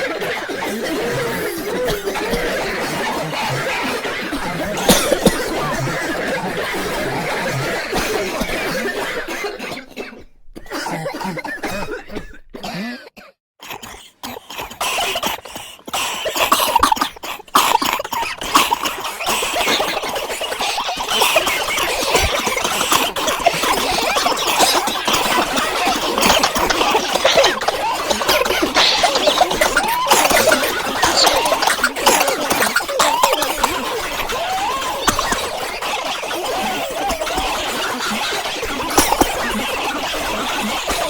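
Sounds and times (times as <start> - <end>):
people coughing: 0.0 - 41.0.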